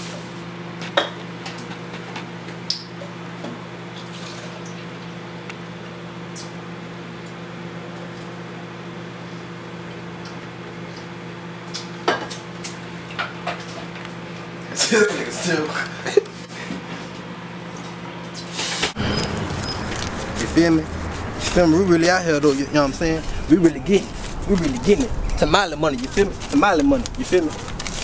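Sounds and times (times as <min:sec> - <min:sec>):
appliance electrical hum: 0:00.0 - 0:28.0.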